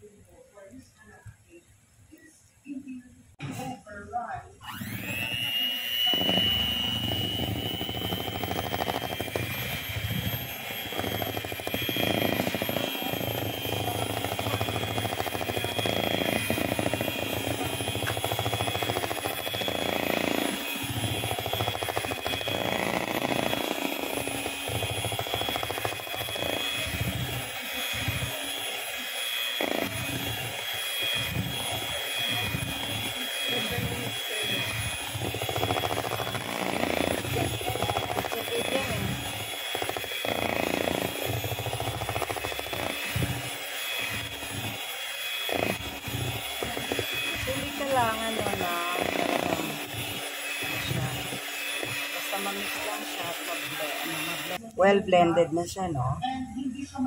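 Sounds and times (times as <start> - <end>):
electric hand mixer whining: 3.5 - 56.7
beaters churning thick batter: 4.6 - 54.7.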